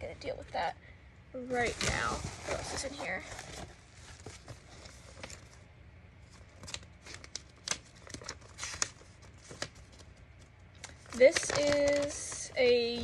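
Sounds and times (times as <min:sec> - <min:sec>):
paper rustling and crinkling: 0:01.6 - 0:05.6, 0:06.2 - 0:13.0.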